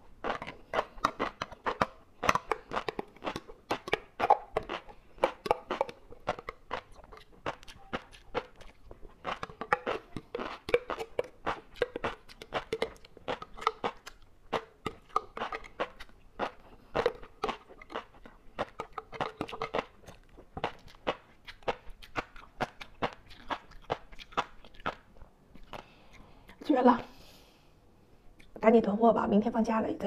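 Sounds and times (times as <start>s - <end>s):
crunchy chewing of fish roe: 0.0s - 26.8s.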